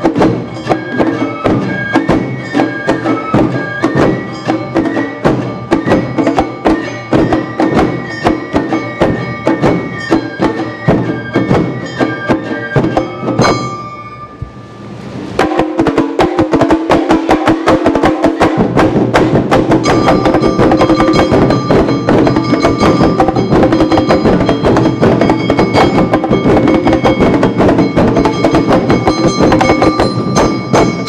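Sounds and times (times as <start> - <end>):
drums and hand gongs: 0.0 - 31.0
high ringing tones: 0.5 - 15.5, 19.7 - 31.0.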